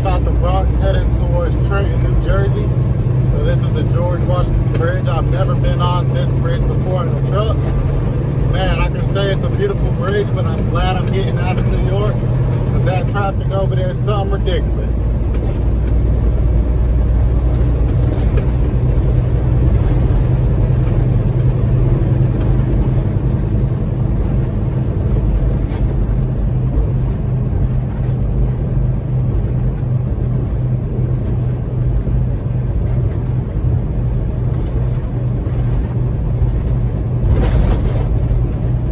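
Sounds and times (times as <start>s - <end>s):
truck engine drone: 0.0s - 38.9s.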